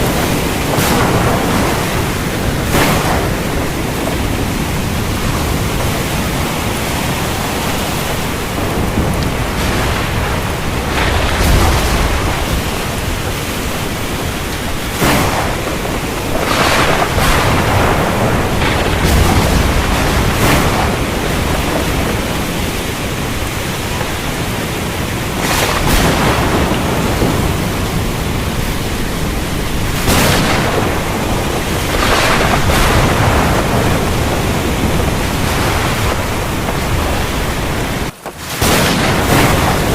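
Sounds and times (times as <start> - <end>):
heavy rain falling: 0.0 - 39.9
thunder cracking and rumbling: 0.0 - 39.9.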